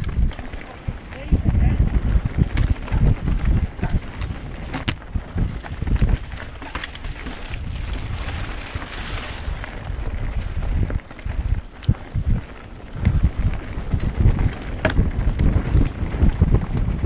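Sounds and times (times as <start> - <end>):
tyres crunching over stones: 0.0 - 16.6
bike knocks and rattles: 0.0 - 17.0
wind rumbling on microphone: 0.0 - 17.0.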